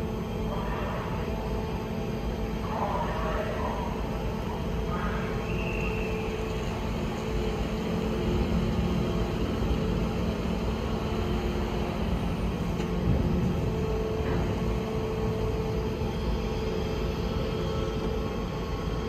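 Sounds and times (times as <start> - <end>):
ship engines rumbling: 0.0 - 19.0.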